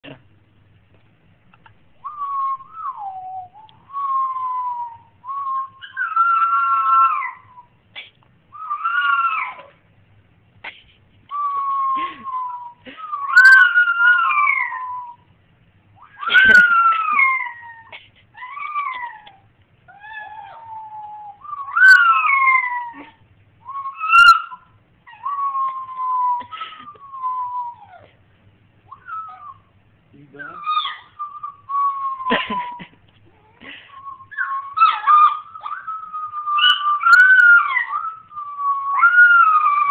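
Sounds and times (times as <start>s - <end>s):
dog howling: 2.0s - 7.8s, 8.5s - 9.8s, 11.3s - 15.3s, 16.0s - 28.2s, 28.9s - 39.9s.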